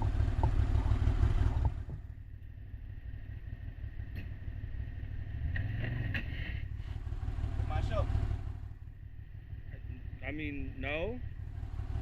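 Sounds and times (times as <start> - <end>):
engine idling low rumble: 0.0 - 12.0.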